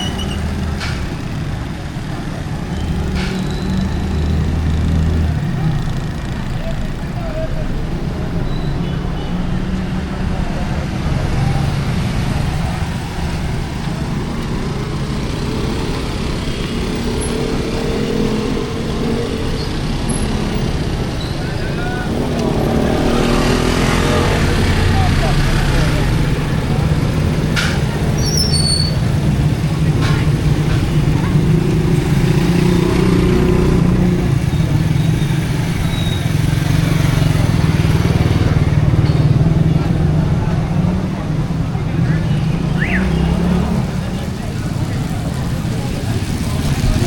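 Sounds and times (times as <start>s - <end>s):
vehicle engines rumbling: 0.0s - 47.0s.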